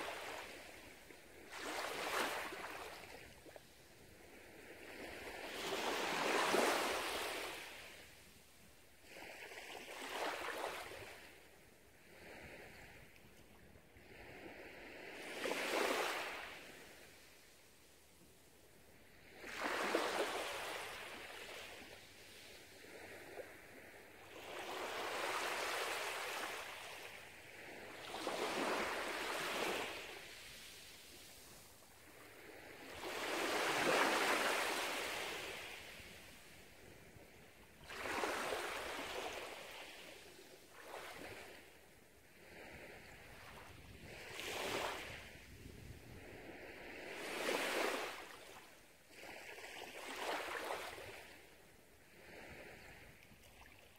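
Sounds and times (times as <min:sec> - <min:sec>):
small waves lapping on beach: 0:00.0 - 0:53.9.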